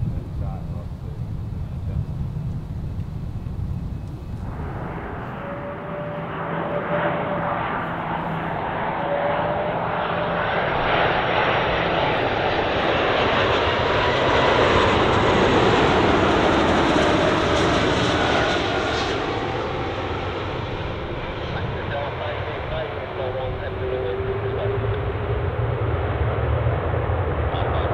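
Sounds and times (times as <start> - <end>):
jet airliner passing low: 0.0 - 27.9.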